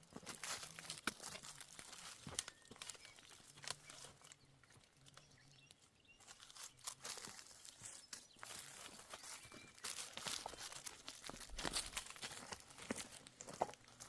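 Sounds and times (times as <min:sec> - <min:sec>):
sheep crunching and tearing grass: 0:00.0 - 0:14.0.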